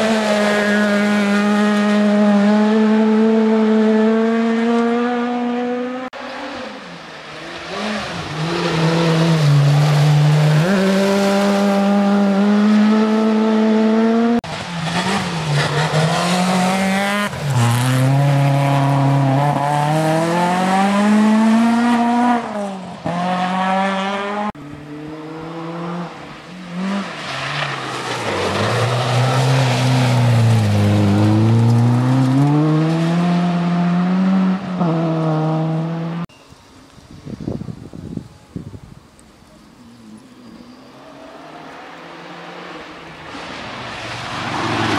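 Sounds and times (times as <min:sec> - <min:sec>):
rally car engines revving: 0:00.0 - 0:36.3, 0:40.0 - 0:44.9.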